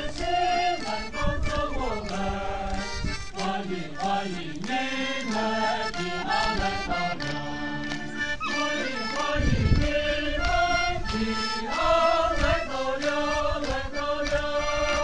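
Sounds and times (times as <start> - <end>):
group singing long notes: 0.0 - 15.0.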